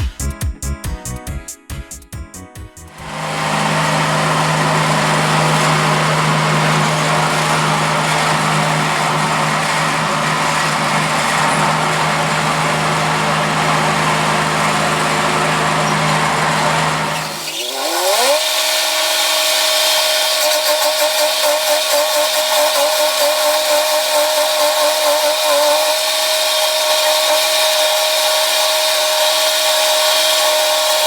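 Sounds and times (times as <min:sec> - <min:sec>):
large engine running: 0:02.9 - 0:31.0.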